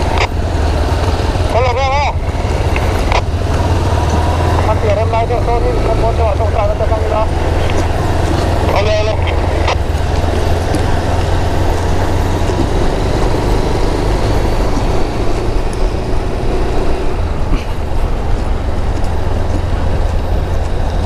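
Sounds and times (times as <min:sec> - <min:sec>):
motorcycle engine hum: 0:00.0 - 0:21.0
wind and road noise: 0:00.0 - 0:21.0.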